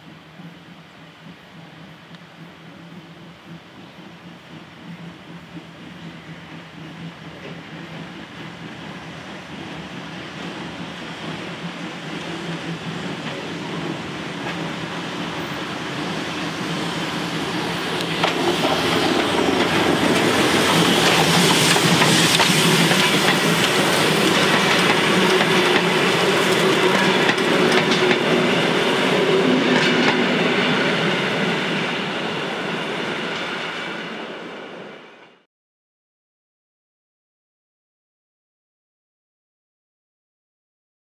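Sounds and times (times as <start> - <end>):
steam train passing: 0.0 - 35.5.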